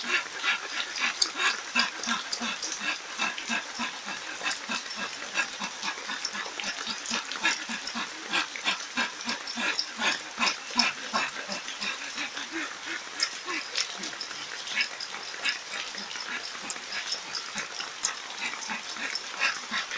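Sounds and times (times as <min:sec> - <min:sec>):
man breathing hard with grunts: 0:00.0 - 0:19.9
rain falling: 0:00.0 - 0:19.9.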